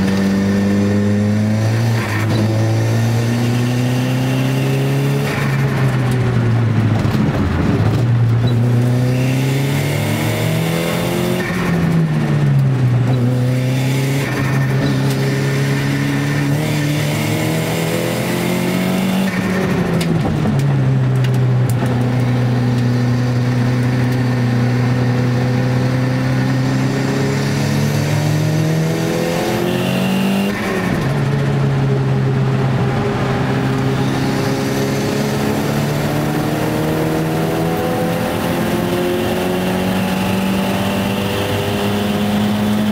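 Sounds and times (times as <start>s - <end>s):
car engine at racing speed: 0.0s - 42.9s.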